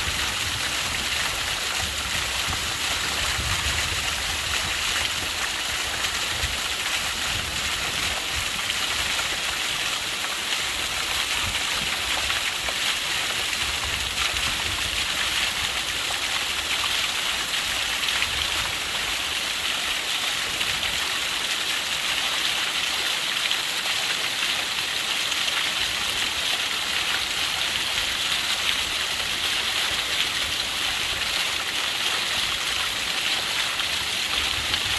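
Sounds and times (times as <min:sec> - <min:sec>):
waterfall splashing: 0:00.0 - 0:34.9.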